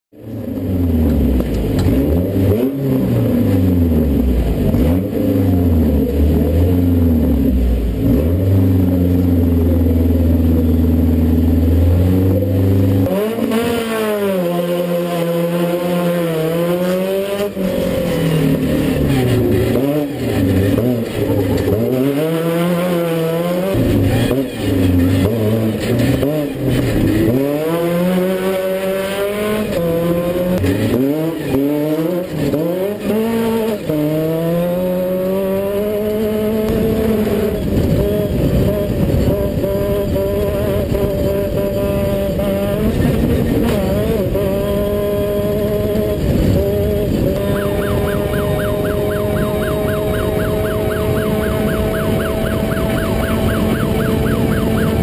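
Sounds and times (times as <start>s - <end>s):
race car engine revving: 0.2s - 55.0s.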